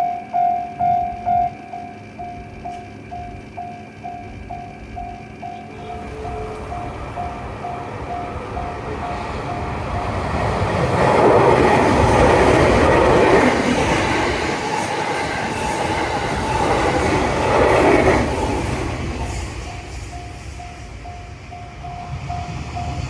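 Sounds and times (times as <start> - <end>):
level crossing warning bell: 0.0 - 23.0
train passing: 0.0 - 23.0.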